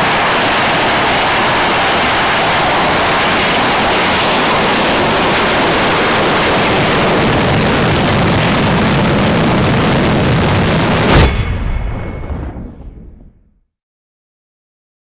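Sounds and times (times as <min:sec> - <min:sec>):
jet engines roaring: 0:00.0 - 0:12.8.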